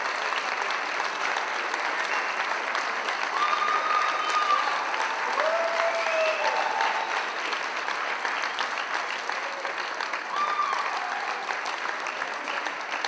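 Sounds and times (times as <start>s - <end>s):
crowd applauding: 0.0s - 13.0s
people cheering: 0.0s - 13.0s.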